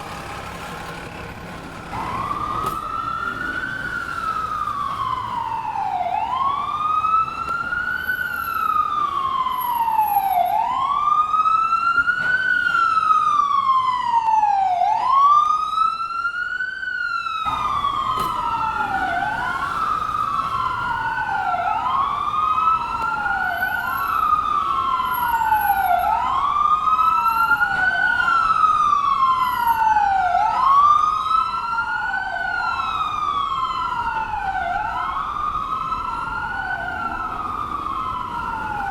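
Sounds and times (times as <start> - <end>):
ambulance siren wailing: 0.0 - 38.9.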